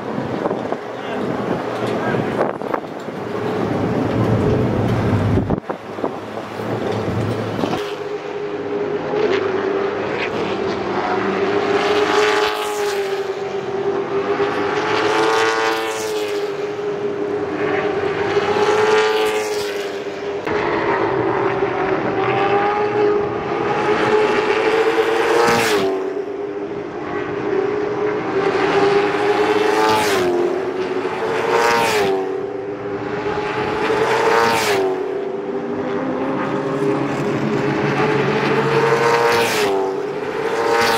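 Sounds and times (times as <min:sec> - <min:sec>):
race car engines droning: 0:00.0 - 0:40.9
race car passing by: 0:00.1 - 0:40.9.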